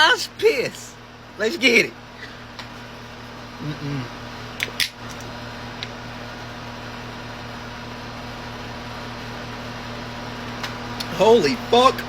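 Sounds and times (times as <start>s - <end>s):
low electrical hum and hiss: 0.0s - 12.0s.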